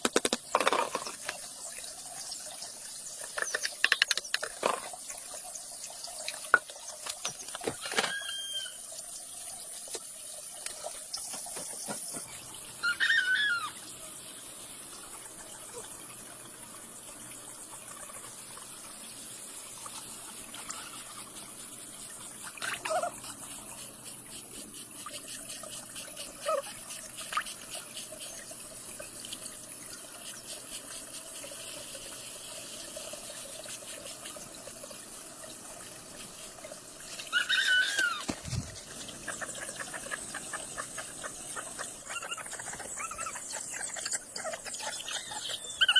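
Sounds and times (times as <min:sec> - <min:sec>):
water trickling: 0:00.4 - 0:45.9.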